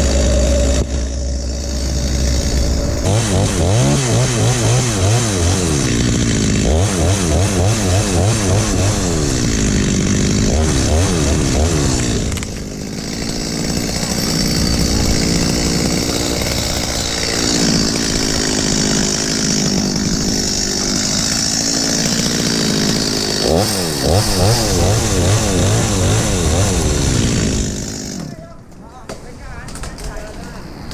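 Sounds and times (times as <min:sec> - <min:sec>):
chainsaw engine revving: 0:00.0 - 0:28.5.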